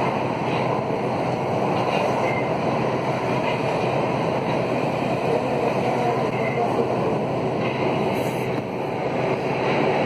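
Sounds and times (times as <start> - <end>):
metro train wheels on rail: 0.0 - 10.0.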